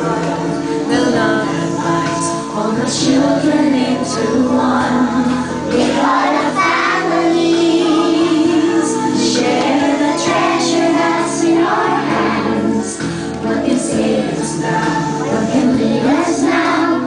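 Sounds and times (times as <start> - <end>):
children singing in chorus: 0.0 - 17.0.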